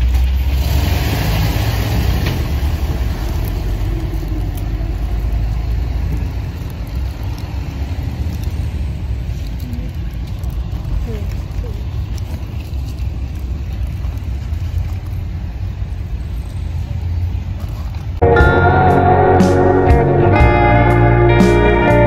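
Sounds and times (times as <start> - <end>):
vehicle engine rumble from inside: 0.0 - 18.2.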